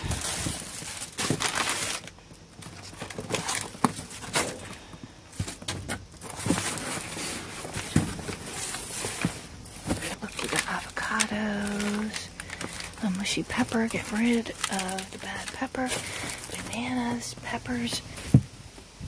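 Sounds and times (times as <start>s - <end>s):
plastic packaging crinkling: 0.0s - 4.6s, 6.2s - 18.0s.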